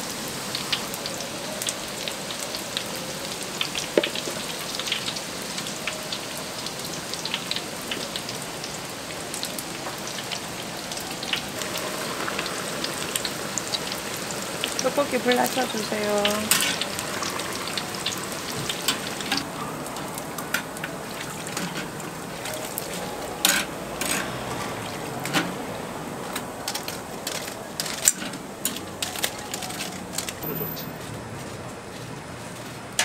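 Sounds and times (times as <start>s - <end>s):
food deep-frying in oil: 0.0s - 30.8s.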